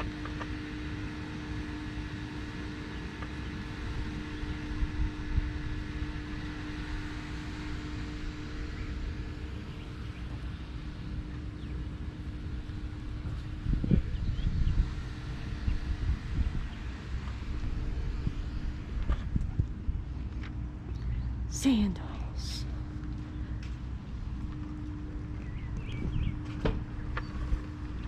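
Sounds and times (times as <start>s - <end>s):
machine hum: 0.0s - 28.0s
low rumble: 3.8s - 28.0s.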